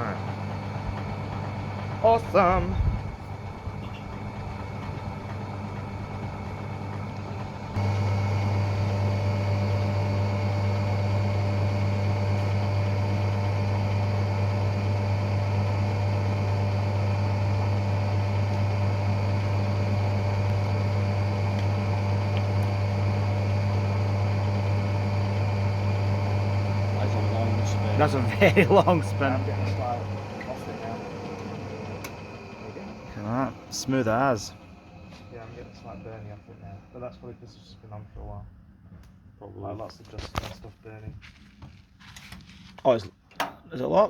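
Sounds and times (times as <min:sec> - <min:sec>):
washing machine motor humming: 0:00.0 - 0:37.9.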